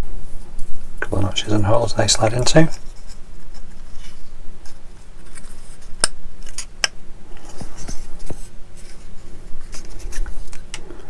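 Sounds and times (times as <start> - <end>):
plastic parts handled: 1.4 - 10.8.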